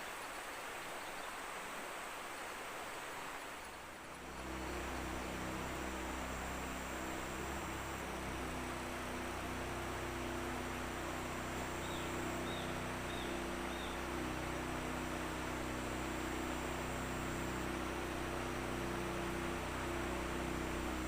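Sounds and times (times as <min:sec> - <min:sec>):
background hiss: 0:00.0 - 0:21.0
boat motor humming: 0:04.1 - 0:21.0.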